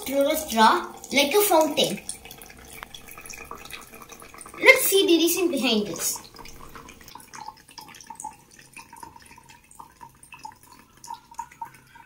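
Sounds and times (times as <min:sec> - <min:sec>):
faint water drips and splashes: 0:00.0 - 0:12.0
water trickling into plastic jug: 0:00.0 - 0:12.0.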